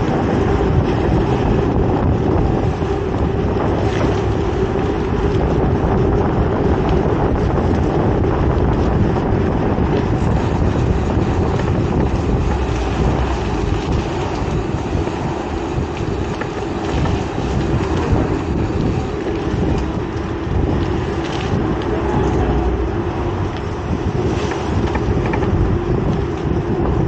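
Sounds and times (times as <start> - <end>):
road traffic rumble: 0.0 - 27.0
wind buffeting microphone: 0.0 - 27.0.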